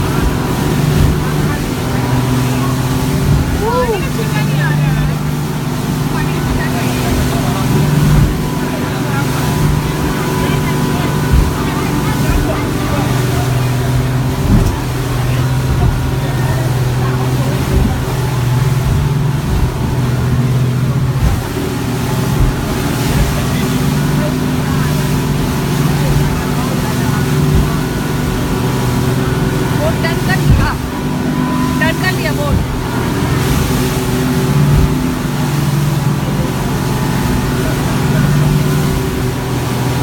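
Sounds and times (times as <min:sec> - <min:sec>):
boat engine droning: 0:00.0 - 0:40.0
wind and water rushing: 0:00.0 - 0:40.0.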